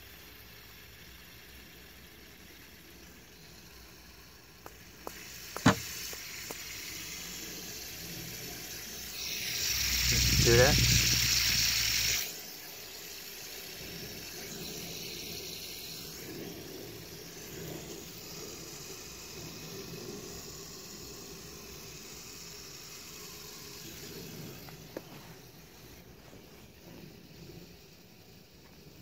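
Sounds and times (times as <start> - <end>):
fidget spinner whirring: 0.0 - 29.0.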